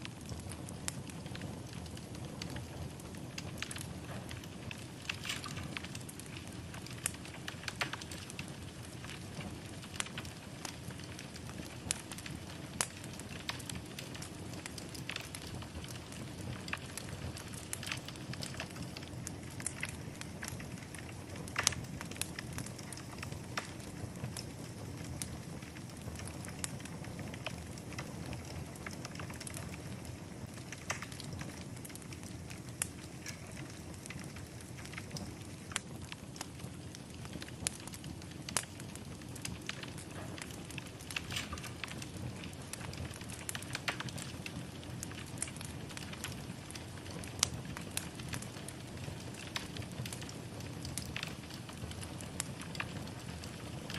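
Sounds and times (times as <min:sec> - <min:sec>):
fire crackles and pops: 0:00.0 - 0:53.9
low rush of flame: 0:00.0 - 0:53.9.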